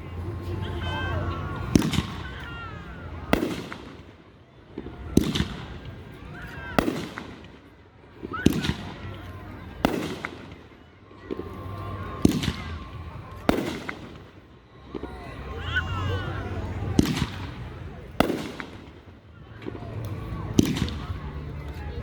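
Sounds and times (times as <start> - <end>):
fireworks bursting: 1.4 - 6.1, 6.8 - 15.5, 16.8 - 21.4.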